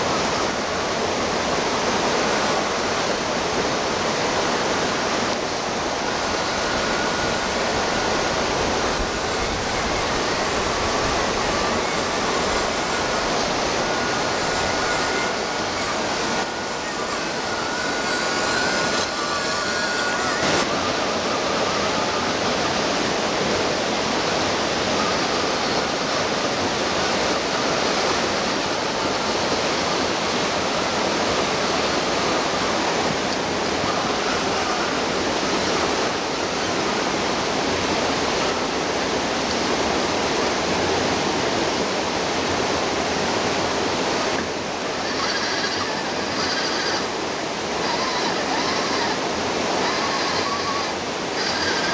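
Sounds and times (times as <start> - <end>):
stream rushing over rock: 0.0 - 51.9.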